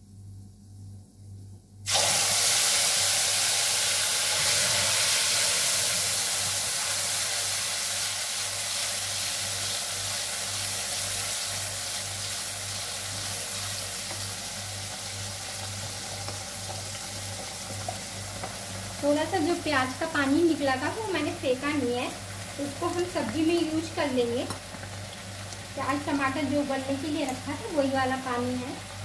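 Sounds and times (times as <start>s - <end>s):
onion paste sizzling in hot oil: 1.8s - 29.0s.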